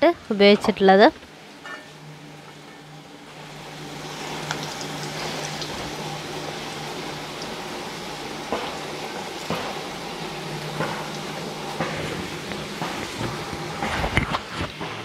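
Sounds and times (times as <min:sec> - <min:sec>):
batter balls sizzling in hot oil: 0:00.4 - 0:14.3.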